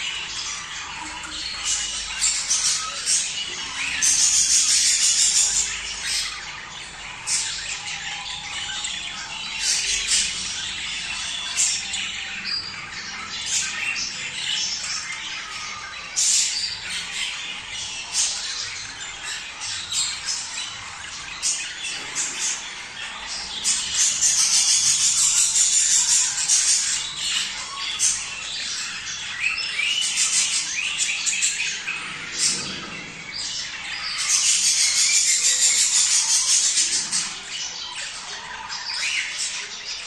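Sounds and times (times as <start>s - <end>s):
budgerigars chattering: 0.0s - 40.0s
sharp squawks and chirps: 0.0s - 40.0s.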